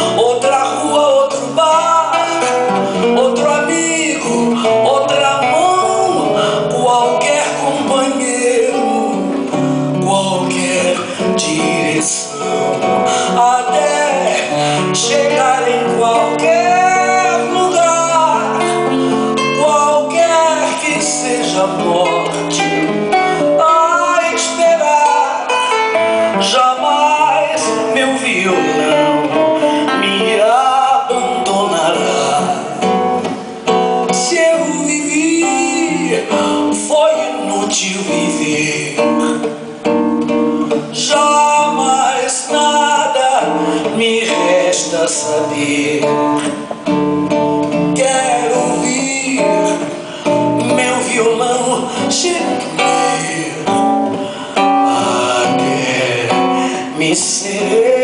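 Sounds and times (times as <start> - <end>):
acoustic guitar: 0.0 - 58.0.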